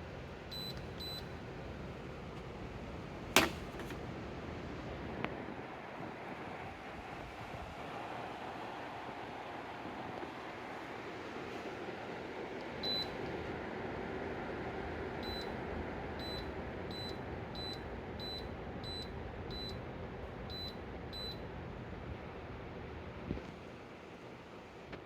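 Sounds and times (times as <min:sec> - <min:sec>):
air conditioner rushing hum: 0:00.0 - 0:25.0.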